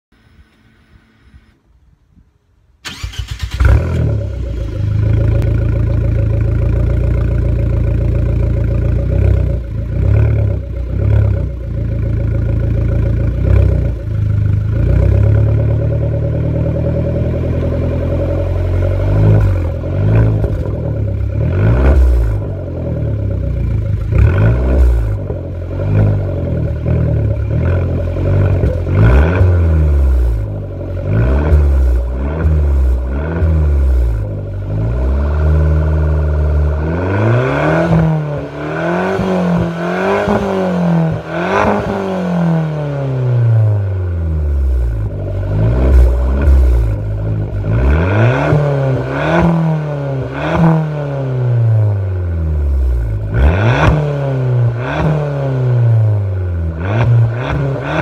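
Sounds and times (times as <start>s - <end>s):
car engine idling and revving: 2.8s - 58.0s.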